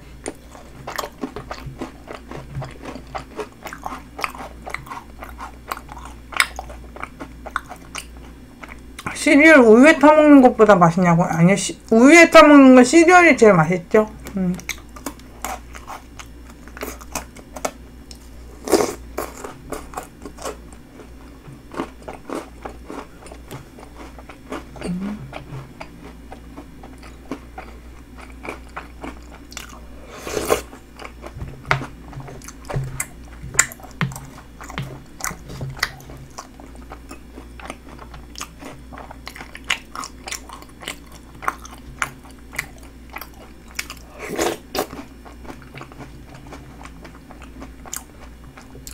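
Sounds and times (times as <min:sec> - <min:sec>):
chewing and crunching: 0:00.2 - 0:09.2, 0:14.2 - 0:48.9.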